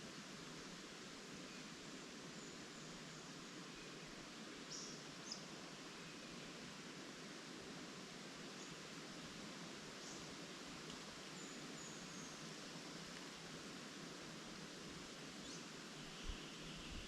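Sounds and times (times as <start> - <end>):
leaves rustling in wind: 0.0 - 17.0.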